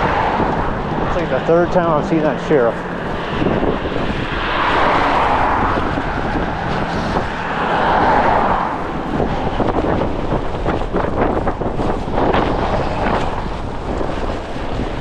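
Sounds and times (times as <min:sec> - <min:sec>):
gusty wind on microphone: 0:00.0 - 0:15.0
vehicles passing: 0:00.0 - 0:15.0.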